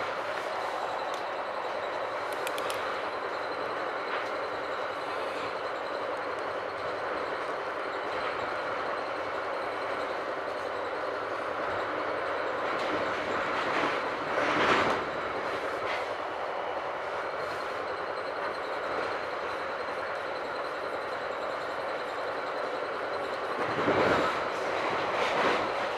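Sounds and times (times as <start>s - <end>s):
train ride noise from inside: 0.0s - 25.9s.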